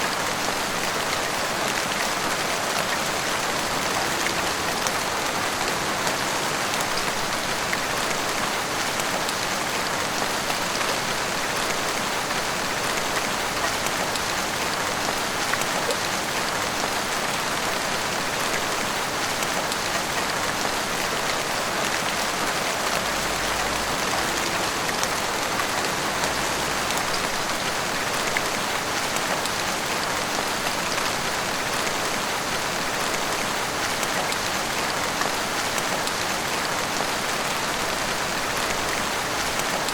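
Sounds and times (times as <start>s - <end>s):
heavy rain on roofs and street: 0.0s - 39.9s.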